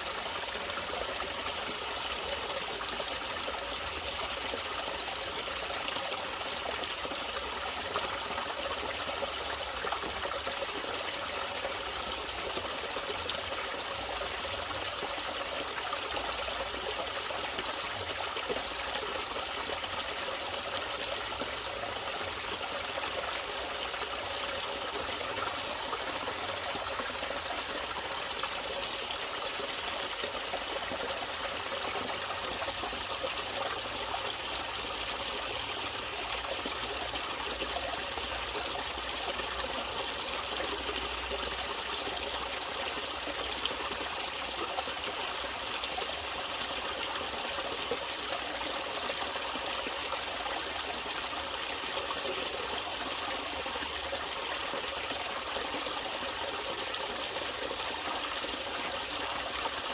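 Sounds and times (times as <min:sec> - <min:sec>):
water trickling in stream: 0:00.0 - 0:59.9.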